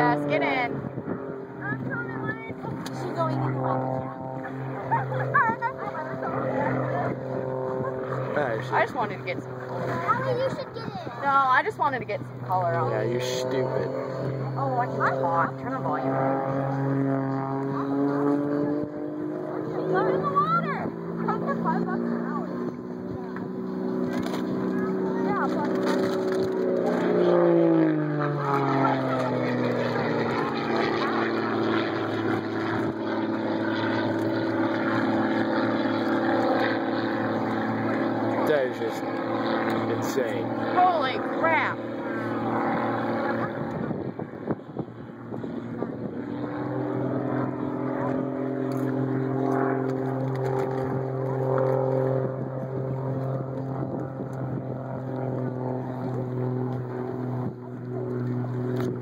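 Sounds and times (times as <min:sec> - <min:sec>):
motorboat engine running: 0:00.0 - 0:59.0
propeller airplane flying past: 0:00.0 - 0:59.0.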